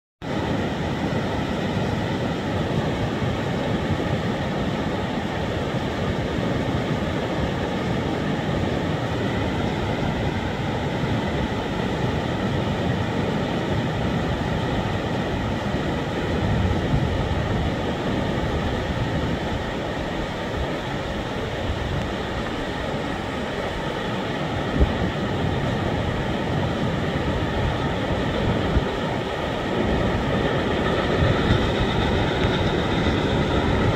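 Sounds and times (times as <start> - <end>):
steam locomotive rumble: 0.2 - 33.9.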